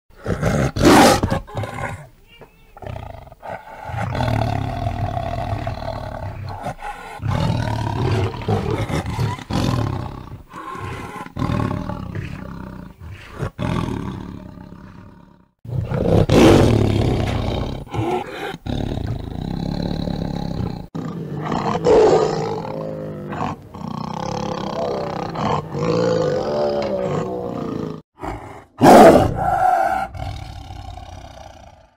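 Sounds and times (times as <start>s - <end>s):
tiger roaring and growling: 0.1s - 2.1s, 2.8s - 31.9s.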